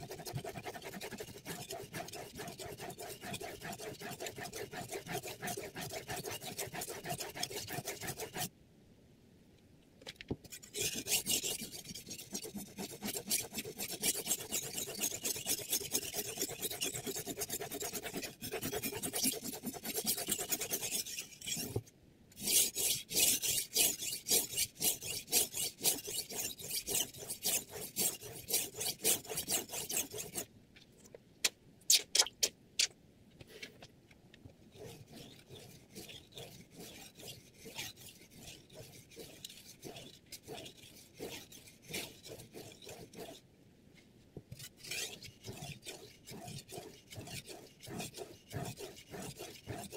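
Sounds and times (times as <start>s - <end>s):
knife rasping on whetstone: 0.0s - 8.5s, 10.5s - 21.8s, 22.4s - 30.5s, 34.7s - 43.4s, 44.5s - 49.9s.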